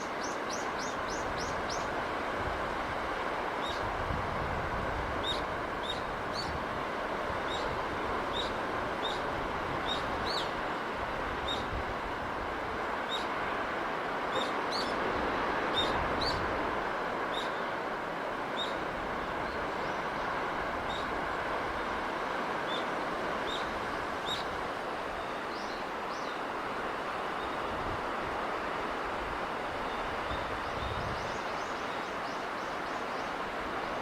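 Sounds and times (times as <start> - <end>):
sea surf rushing: 0.0 - 34.0
wind: 0.0 - 34.0.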